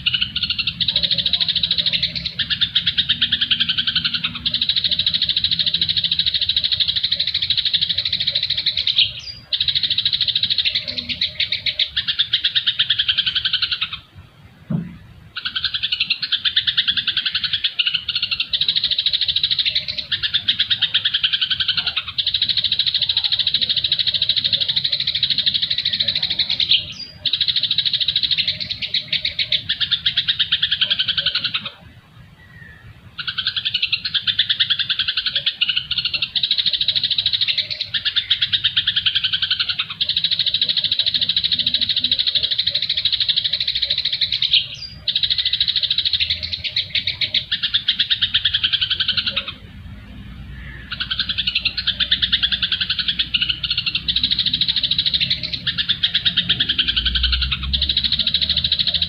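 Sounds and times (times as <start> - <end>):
songbird twittering: 0.0 - 59.0.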